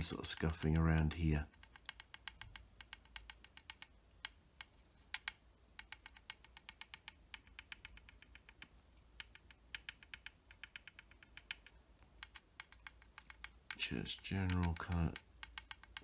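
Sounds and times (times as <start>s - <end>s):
tool tapping on plastic: 0.0s - 16.0s.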